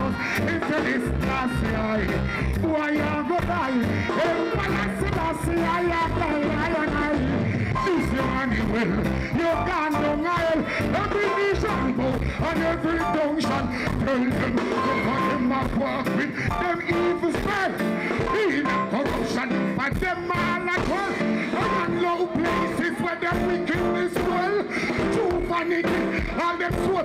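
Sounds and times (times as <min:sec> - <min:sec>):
live reggae band: 0:00.0 - 0:27.0
man singing: 0:00.0 - 0:27.0.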